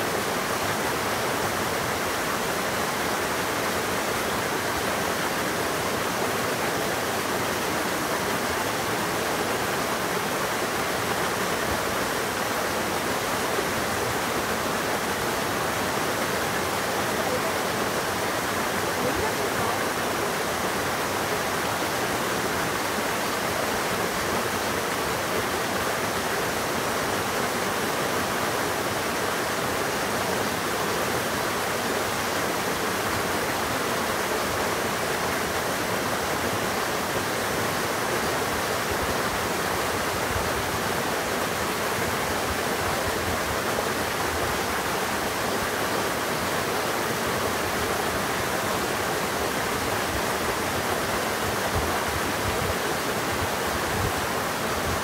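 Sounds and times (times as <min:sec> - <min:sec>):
waterfall rushing over boulders: 0:00.0 - 0:55.0.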